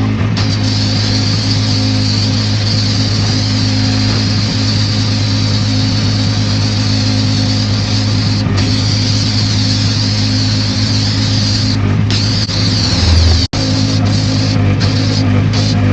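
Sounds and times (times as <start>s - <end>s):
pressure washer engine hum: 0.0s - 15.9s
high-pressure spray hissing: 0.4s - 15.7s.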